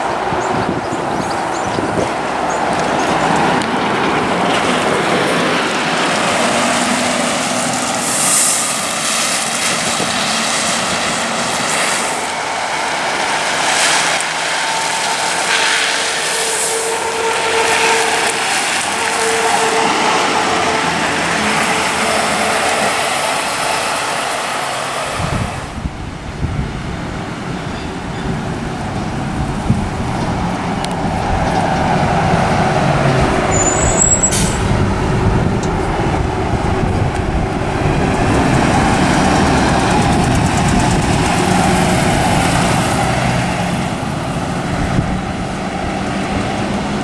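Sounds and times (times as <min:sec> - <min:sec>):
diesel bus engine: 0:00.0 - 0:47.0
road noise: 0:00.0 - 0:47.0.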